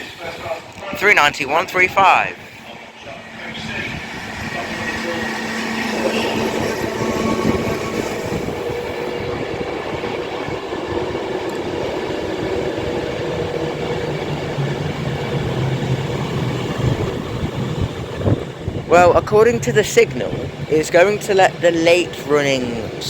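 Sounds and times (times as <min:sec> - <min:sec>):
train wheels rumbling on rail: 0:00.0 - 0:23.0
steady machine tones: 0:01.1 - 0:23.0.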